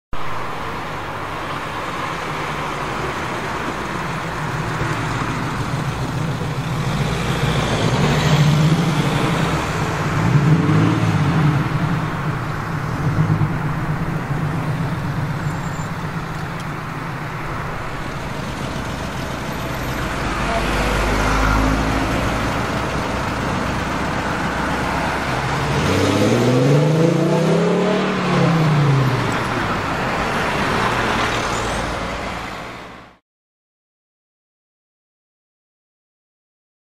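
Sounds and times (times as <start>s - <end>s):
street traffic: 0.1s - 33.2s.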